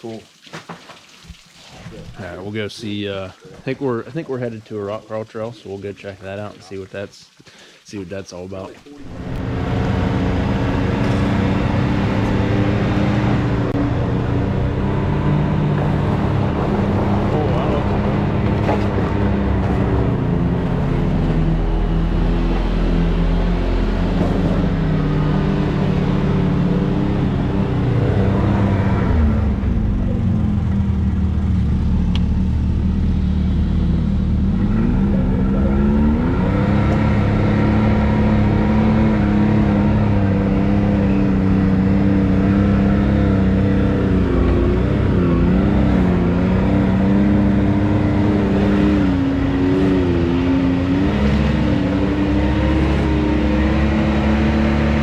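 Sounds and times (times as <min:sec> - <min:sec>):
utility vehicle engine running: 0:09.0 - 0:55.0.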